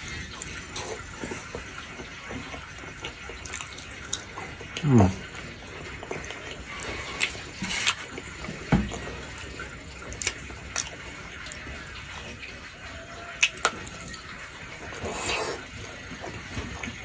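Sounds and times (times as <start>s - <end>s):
steady watery hiss: 0.0s - 17.0s
wet chewing: 0.0s - 17.0s.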